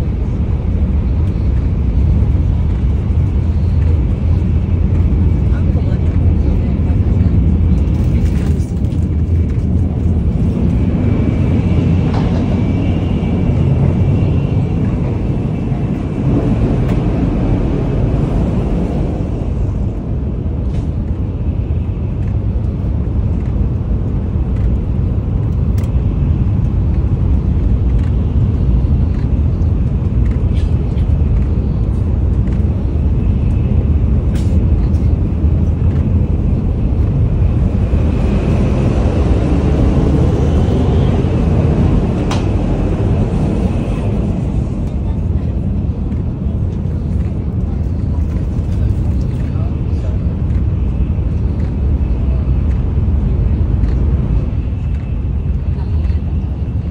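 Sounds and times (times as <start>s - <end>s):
train rumble and rush: 0.0s - 56.9s.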